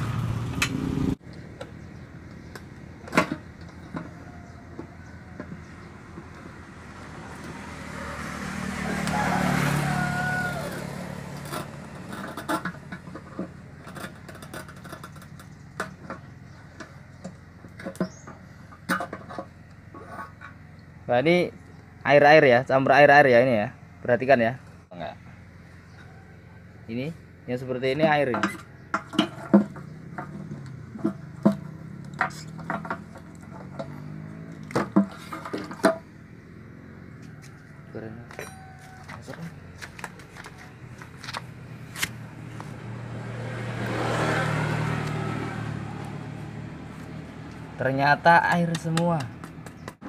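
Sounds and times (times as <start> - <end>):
background vehicle noise: 0.0 - 50.0.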